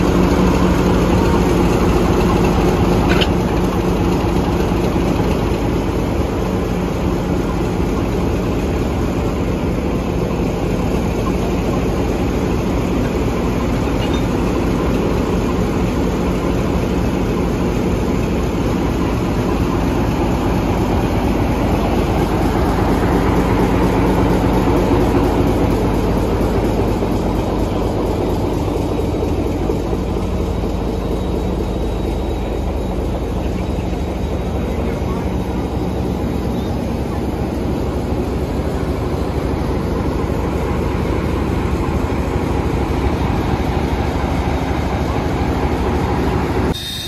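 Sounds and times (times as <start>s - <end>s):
diesel locomotive engine idling: 0.0s - 47.0s.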